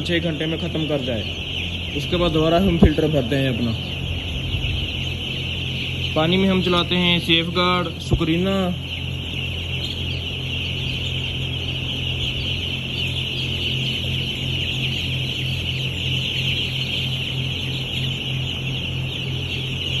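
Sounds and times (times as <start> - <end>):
chicks peeping: 0.0 - 20.0
steady low hum: 0.0 - 20.0.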